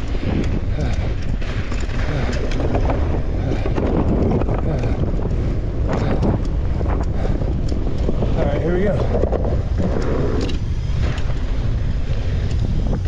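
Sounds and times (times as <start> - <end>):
bike clattering over bumps: 0.0 - 13.0
tyres on dirt and rock: 0.0 - 13.0
wind buffeting microphone: 0.0 - 13.0.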